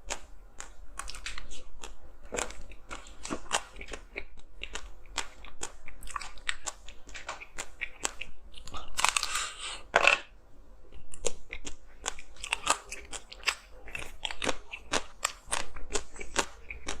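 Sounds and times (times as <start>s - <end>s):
ice being chewed with crunches: 0.0s - 10.3s, 10.9s - 17.0s.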